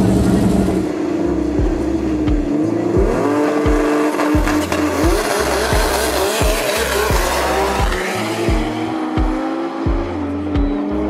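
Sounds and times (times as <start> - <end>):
background music with steady beat: 0.0 - 11.0
drag car engine revving: 0.0 - 11.0.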